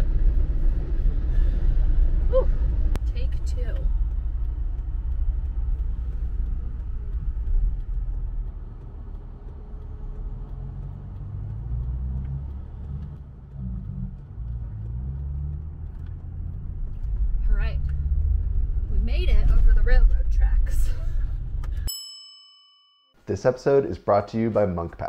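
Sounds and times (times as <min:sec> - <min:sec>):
car engine rumble: 0:00.0 - 0:21.9
road noise inside car: 0:00.0 - 0:21.9.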